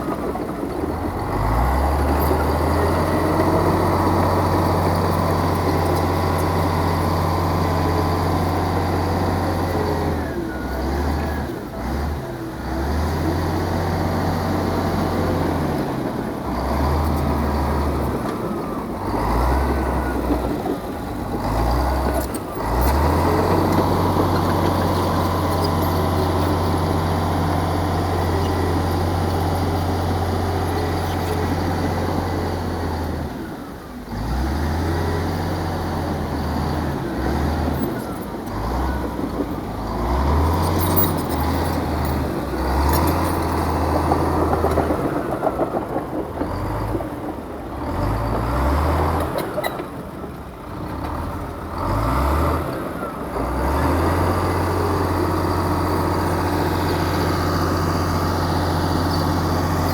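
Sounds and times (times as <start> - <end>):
diesel earthmoving machine running: 0.0 - 59.9.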